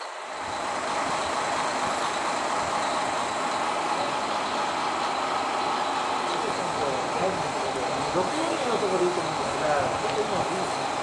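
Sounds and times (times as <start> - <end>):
diesel railcar engine rumbling: 0.0 - 11.0.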